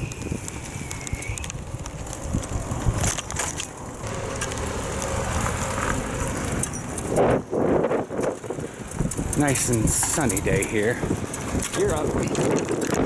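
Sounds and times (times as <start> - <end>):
bicycle rattles and clicks: 0.0 - 13.0
wind rumbling on microphone: 0.0 - 13.0.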